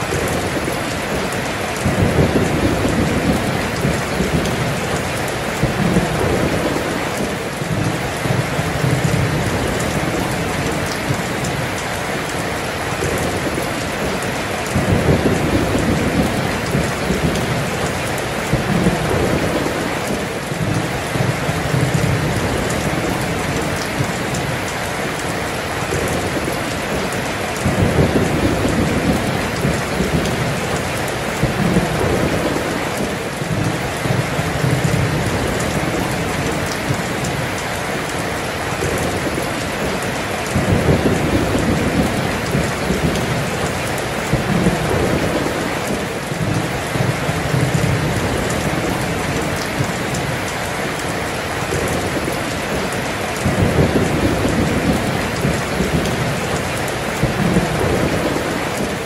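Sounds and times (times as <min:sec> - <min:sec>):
heavy rain pouring: 0:00.0 - 0:59.0
low rolling thunder: 0:00.0 - 0:59.0.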